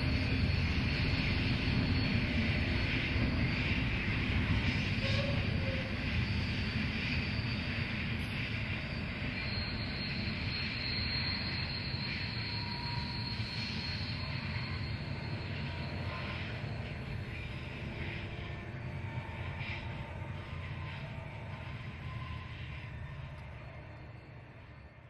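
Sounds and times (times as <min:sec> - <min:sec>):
freight train wagons rumbling: 0:00.0 - 0:25.0.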